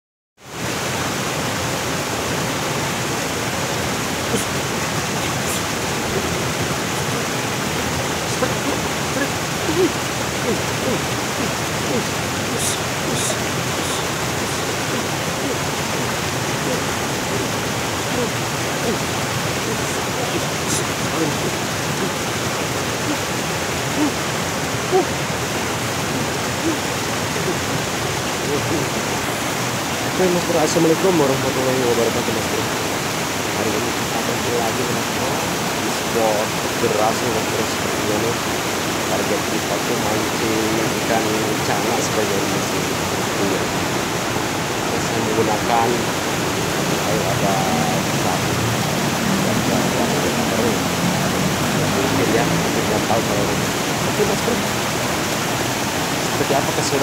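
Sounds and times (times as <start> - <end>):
waterfall and fast stream rushing: 0.4 - 57.0.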